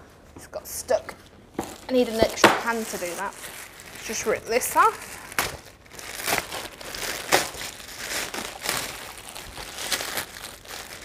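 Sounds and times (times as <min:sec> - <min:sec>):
plastic wrap crinkling: 0:00.9 - 0:11.0.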